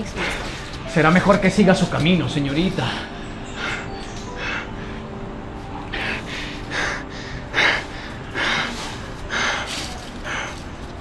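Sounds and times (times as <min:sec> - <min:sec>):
person breathing heavily: 0:00.0 - 0:00.8, 0:02.8 - 0:11.0.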